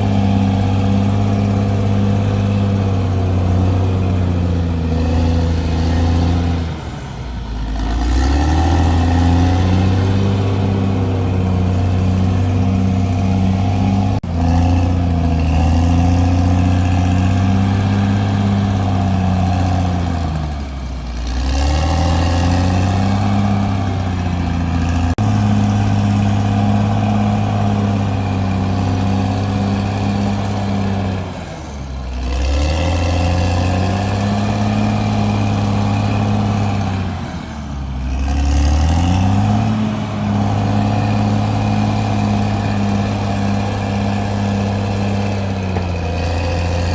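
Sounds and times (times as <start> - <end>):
bulldozer diesel engine revving: 0.0 - 46.9.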